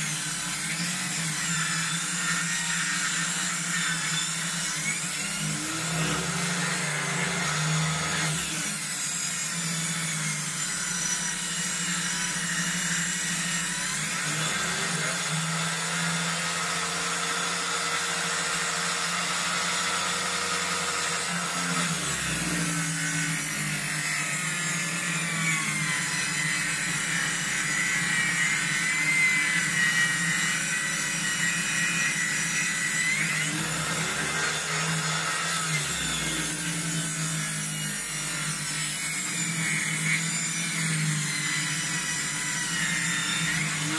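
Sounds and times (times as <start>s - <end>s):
power saw cutting log: 0.0s - 43.9s.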